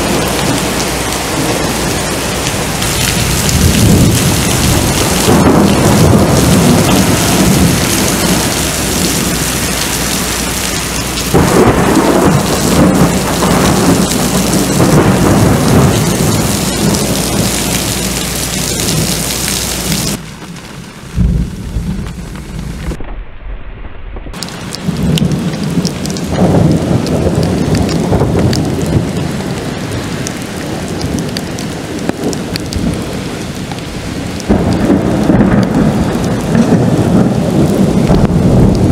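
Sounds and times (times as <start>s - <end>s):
heavy rain pouring: 0.0s - 38.9s
rolling thunder: 0.0s - 38.9s.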